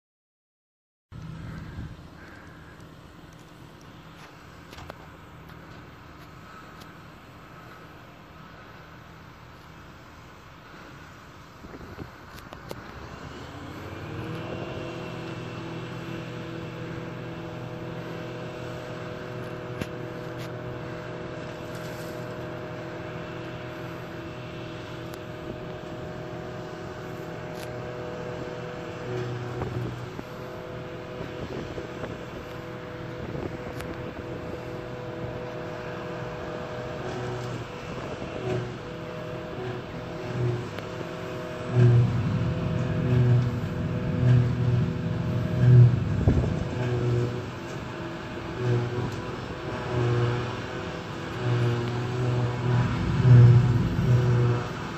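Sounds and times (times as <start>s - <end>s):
forage harvester engine and chopper: 1.1s - 54.9s
high whine: 1.1s - 54.9s
tractor engine running: 1.1s - 54.9s.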